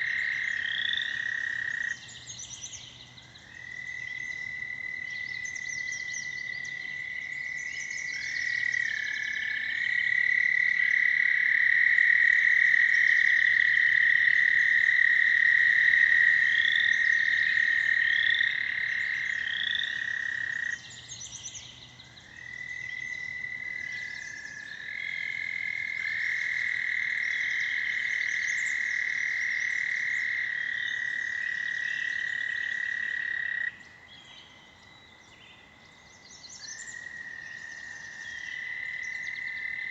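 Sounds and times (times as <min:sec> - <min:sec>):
toads trilling: 0:00.0 - 0:35.2, 0:36.6 - 0:39.9.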